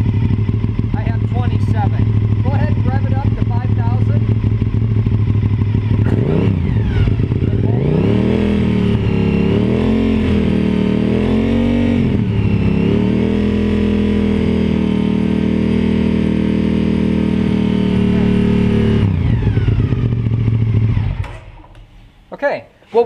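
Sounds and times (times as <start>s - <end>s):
motorcycle engine revving: 0.0s - 22.1s.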